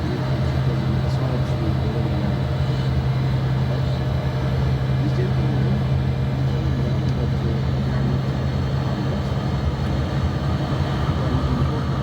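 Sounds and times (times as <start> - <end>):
road noise: 0.0 - 12.0
vehicle cabin drone: 0.0 - 12.0.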